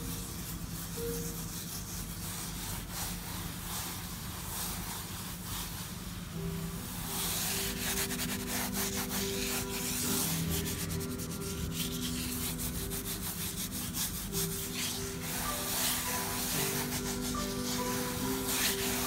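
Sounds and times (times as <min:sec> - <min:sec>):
fingers rubbing on paper: 0:00.0 - 0:19.0.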